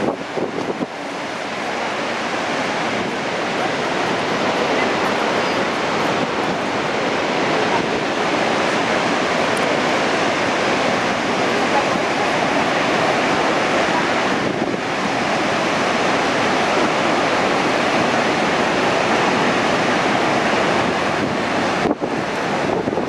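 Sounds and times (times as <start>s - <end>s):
waterfall rushing: 0.0s - 23.0s
wind buffeting microphone: 0.0s - 23.0s.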